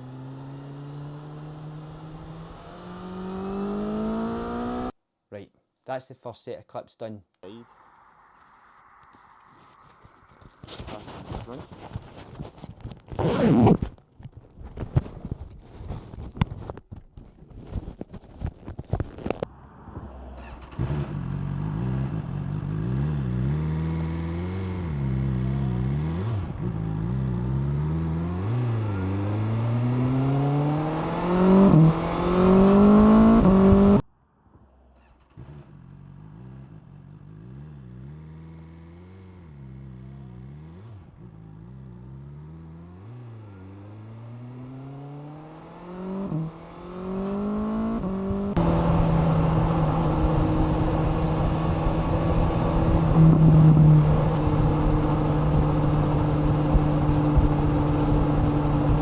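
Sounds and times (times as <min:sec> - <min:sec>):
motorcycle engine accelerating: 0:00.0 - 0:04.9, 0:08.4 - 0:14.0, 0:14.6 - 0:34.0, 0:34.7 - 0:59.0.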